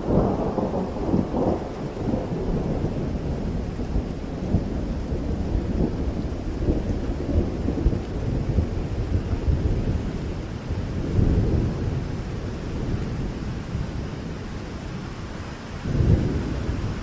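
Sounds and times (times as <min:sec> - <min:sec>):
deep thunder rumble: 0:00.0 - 0:17.0
steady rain: 0:00.0 - 0:17.0.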